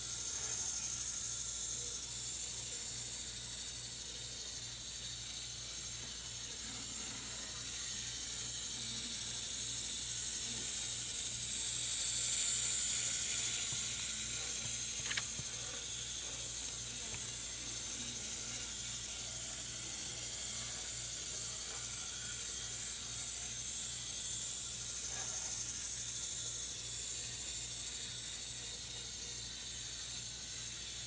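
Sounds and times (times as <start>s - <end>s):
small gear motor whirring: 0.0s - 31.0s.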